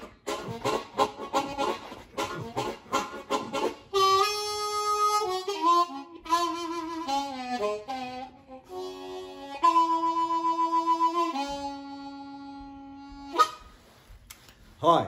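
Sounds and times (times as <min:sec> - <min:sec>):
blues harmonica: 0:00.0 - 0:14.3.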